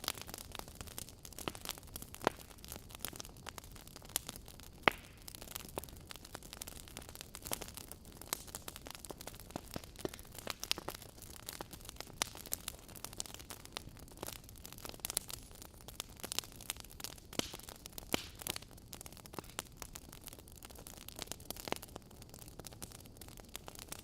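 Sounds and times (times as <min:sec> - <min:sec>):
soft fire hiss: 0:00.0 - 0:24.0
wood fire crackling and popping: 0:00.0 - 0:24.0.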